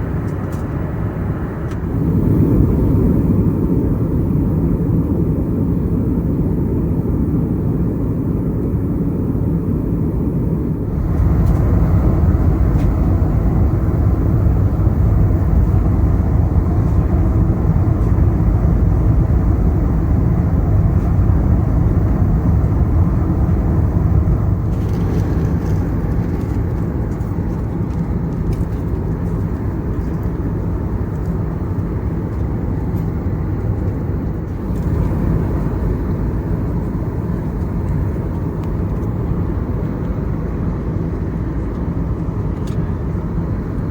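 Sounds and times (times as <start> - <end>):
aircraft cabin engine rumble: 0.0 - 43.9.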